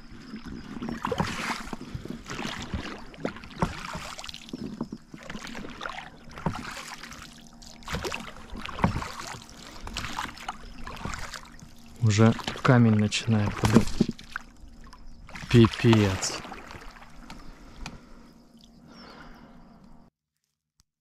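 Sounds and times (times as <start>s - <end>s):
oars splashing through water: 0.0s - 19.4s.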